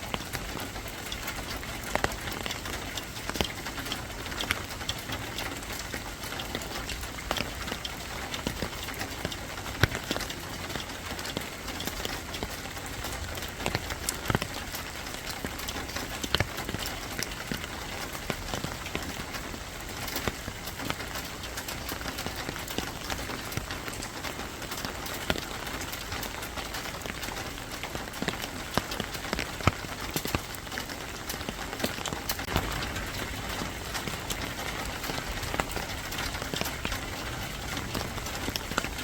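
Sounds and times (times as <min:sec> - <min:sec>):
sharp taps of raindrops: 0:00.0 - 0:39.0
steady rain hiss: 0:00.0 - 0:39.0.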